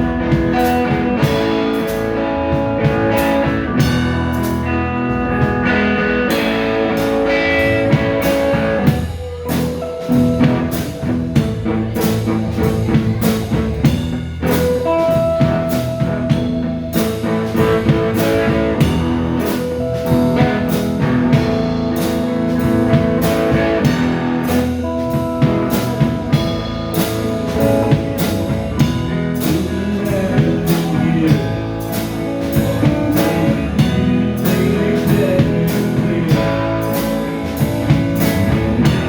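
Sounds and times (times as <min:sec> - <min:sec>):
bass: 0:00.0 - 0:39.0
drum kit beat: 0:00.0 - 0:39.0
electric guitar: 0:00.0 - 0:39.0.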